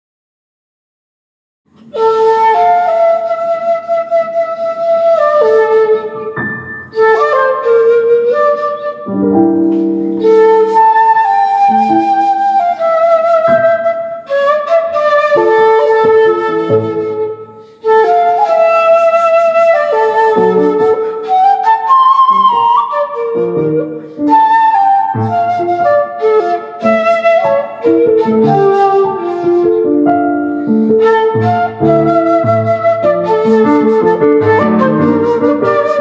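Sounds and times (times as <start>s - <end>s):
piano accompaniment: 1.7s - 36.0s
shakuhachi flute melody: 1.7s - 36.0s.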